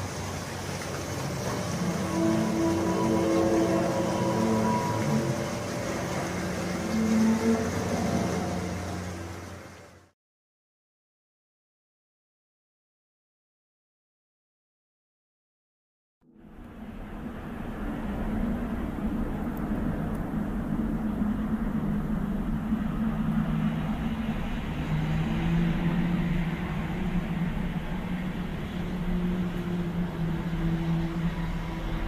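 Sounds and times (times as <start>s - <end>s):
low droning hum: 0.0s - 10.1s, 16.2s - 32.0s.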